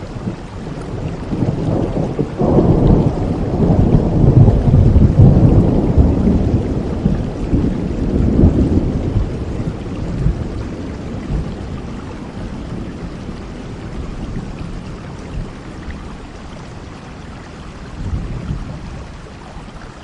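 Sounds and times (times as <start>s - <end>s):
thunder rumbling: 0.0s - 16.3s, 17.9s - 19.1s
steady rain: 0.0s - 20.0s.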